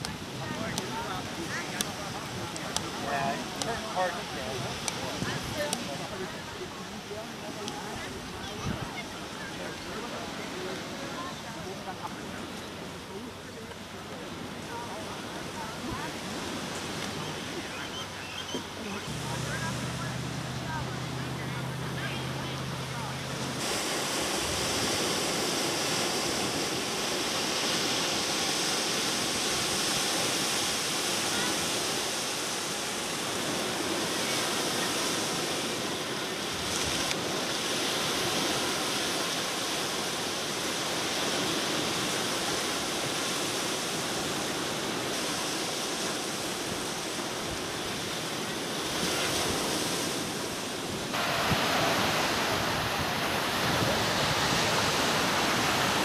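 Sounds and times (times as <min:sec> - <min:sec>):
surf breaking on sandy beach: 0:00.0 - 0:56.0.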